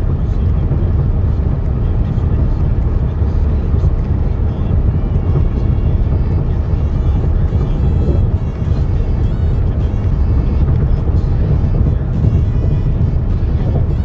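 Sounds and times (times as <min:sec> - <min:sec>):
loud low vehicle rumble: 0:00.0 - 0:14.0.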